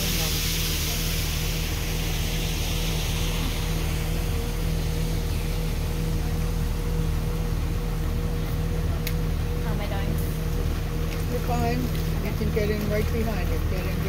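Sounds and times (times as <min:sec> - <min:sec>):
diesel engine running: 0:00.0 - 0:14.0
faint steady hum: 0:00.0 - 0:14.0
water and air noise: 0:00.0 - 0:14.0.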